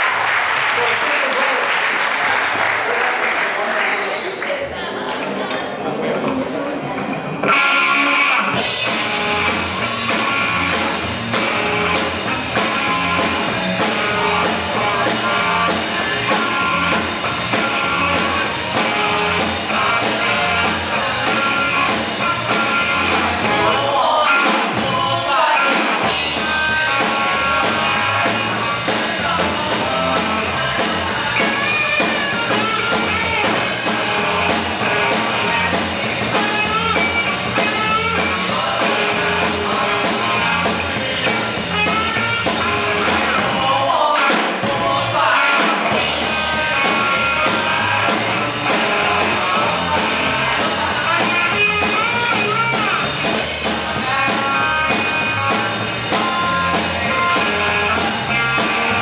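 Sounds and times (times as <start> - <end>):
electric guitars: 0.0 - 59.0
bass guitar: 4.7 - 59.0
drum kit: 7.0 - 59.0
vocals sung into microphones: 11.5 - 59.0.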